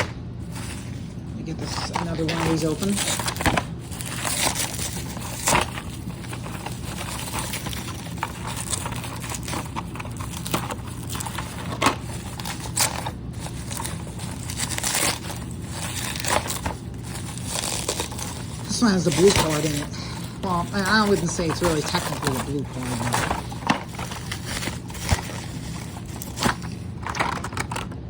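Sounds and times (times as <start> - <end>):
packaging crinkling and tearing: 0.0 - 28.0.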